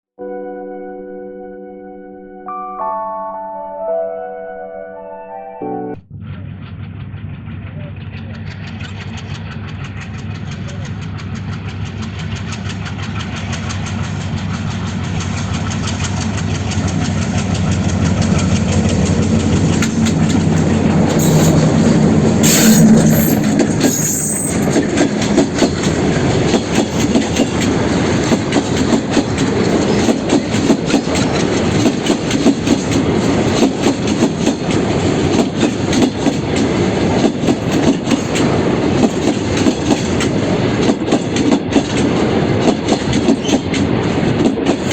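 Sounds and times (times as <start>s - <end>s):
diesel locomotive engine hum: 6.0s - 44.9s
wagon wheels clacking on rail joints: 8.4s - 44.9s.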